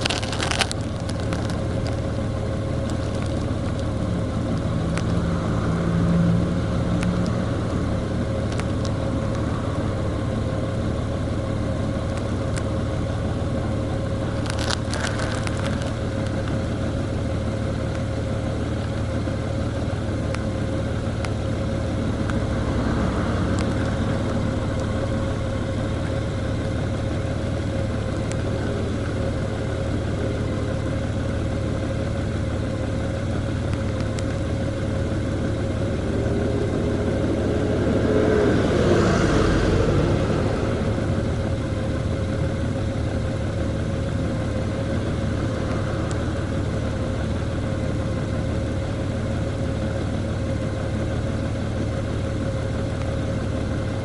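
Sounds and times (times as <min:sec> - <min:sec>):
constant whine: 0:00.0 - 0:54.0
vehicle engine and road noise: 0:00.0 - 0:54.0.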